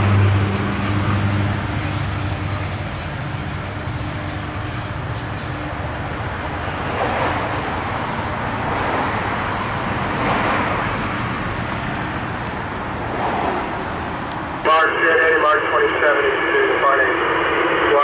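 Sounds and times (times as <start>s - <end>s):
passing vehicles rushing: 0.0s - 18.0s.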